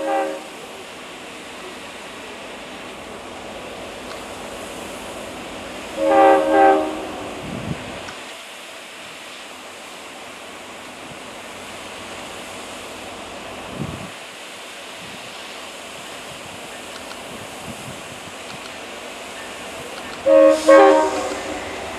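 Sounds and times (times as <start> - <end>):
rushing hiss of snow plow: 0.0 - 21.9.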